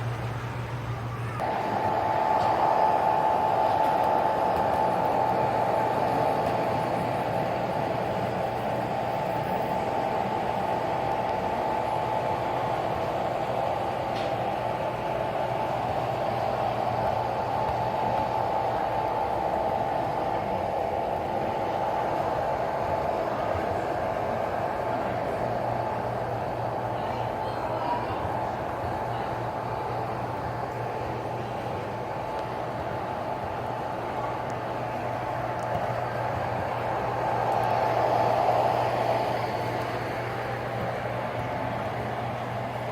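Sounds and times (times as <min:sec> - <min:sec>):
model train running with whine: 0:00.0 - 0:42.9.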